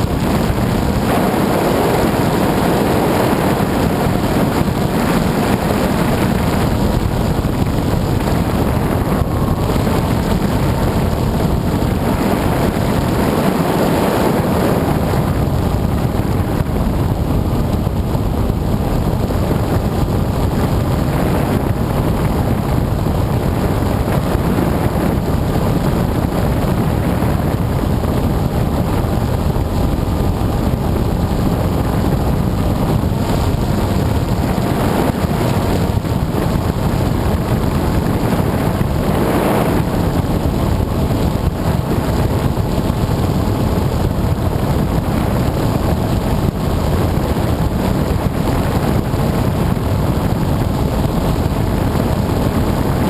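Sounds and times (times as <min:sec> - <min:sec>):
model aircraft motor drone: 0:00.0 - 0:45.5
wind rushing over microphone: 0:00.0 - 0:53.0.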